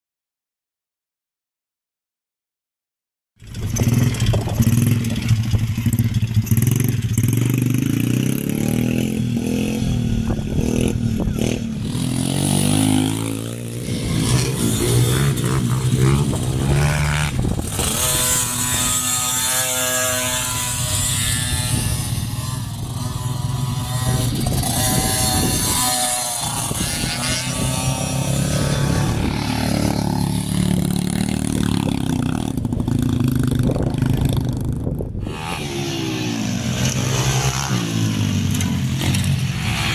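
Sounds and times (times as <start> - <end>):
small motorcycle engines revving: 3.4 - 39.9.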